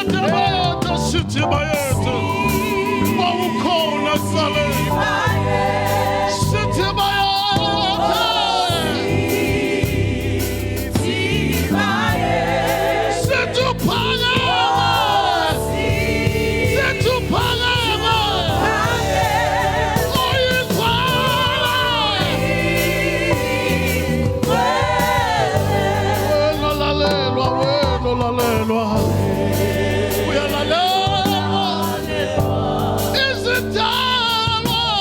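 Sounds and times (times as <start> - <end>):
gospel choir singing: 0.0 - 35.0
instrumental backing with bass: 0.0 - 35.0
lead voice singing: 0.0 - 35.0.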